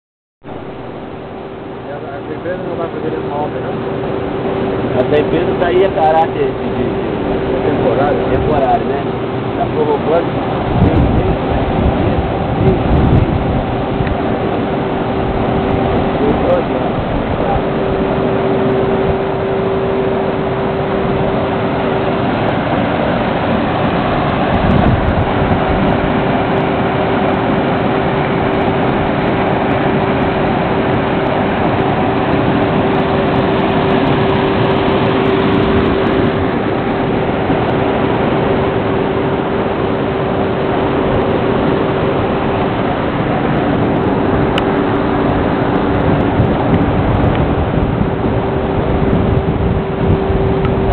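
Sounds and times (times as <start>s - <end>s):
lower hum: 0.4s - 50.9s
steady hum: 0.4s - 50.9s
river water rushing over weir: 0.5s - 50.9s.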